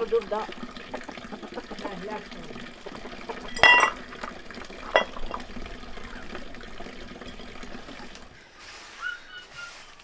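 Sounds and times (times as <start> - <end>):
water pouring and splashing: 0.0 - 8.9.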